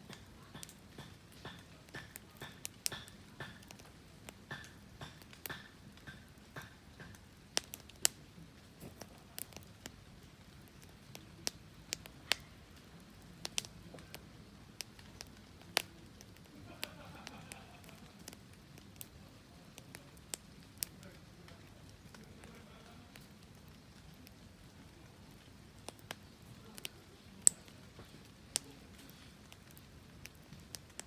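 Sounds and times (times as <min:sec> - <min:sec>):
low steady hiss: 0:00.0 - 0:31.0
wood fire crackling: 0:00.0 - 0:31.0.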